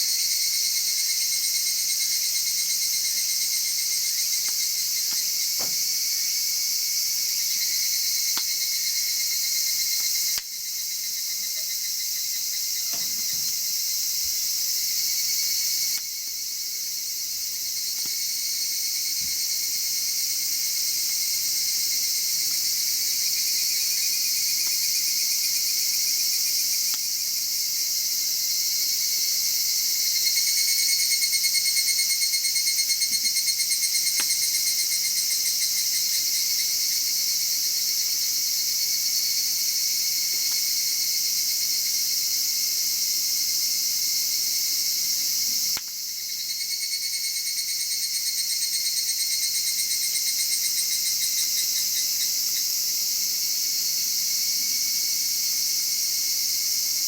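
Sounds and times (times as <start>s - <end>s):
crickets and insects chirping: 0.0s - 57.0s.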